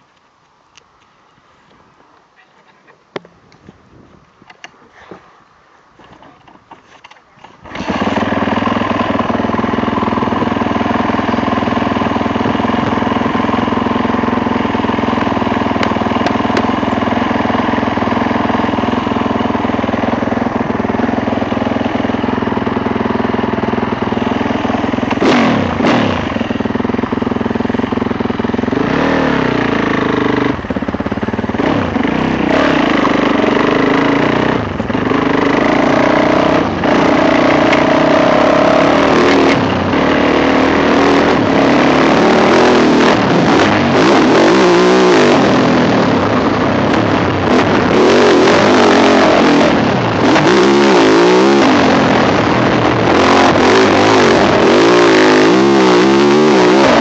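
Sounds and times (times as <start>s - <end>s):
motorcycle engine idling: 7.6s - 44.0s, 44.8s - 57.0s
motorcycle engine revving: 7.6s - 57.0s.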